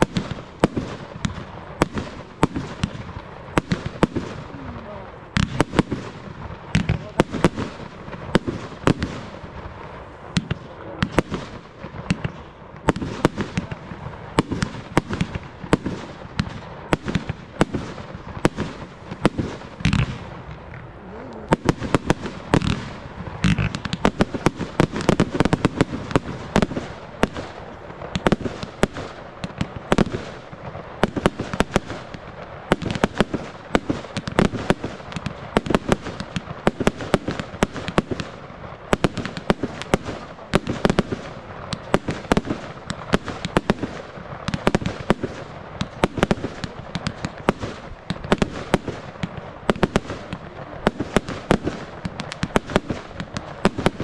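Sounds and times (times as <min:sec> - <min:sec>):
fireworks launching and bursting: 0:00.0 - 0:54.0.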